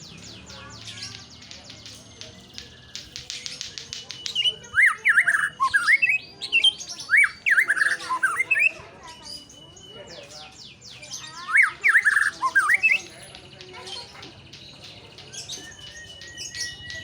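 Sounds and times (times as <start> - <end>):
bird singing whistled phrases: 0.1 - 13.4, 14.0 - 17.0.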